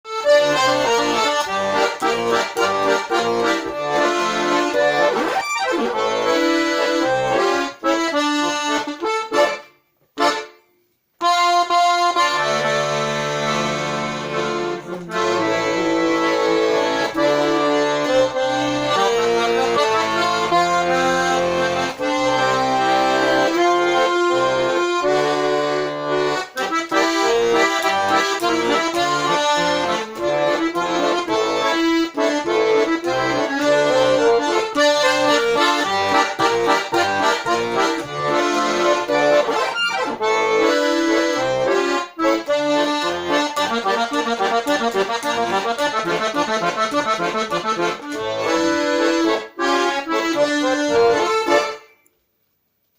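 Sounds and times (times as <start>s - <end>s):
button accordion folk tune: 0.0s - 52.1s.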